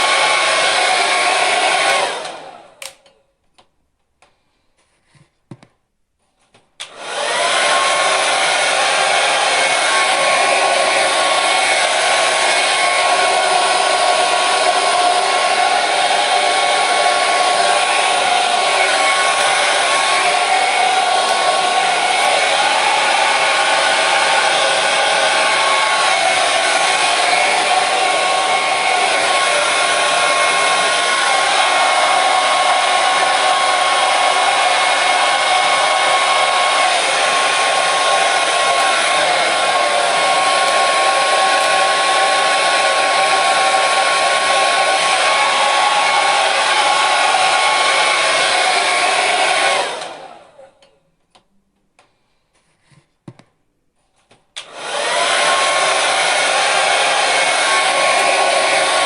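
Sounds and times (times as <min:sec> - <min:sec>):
hair dryer blowing: 0:00.0 - 0:03.2, 0:06.8 - 0:50.9, 0:54.6 - 0:59.0.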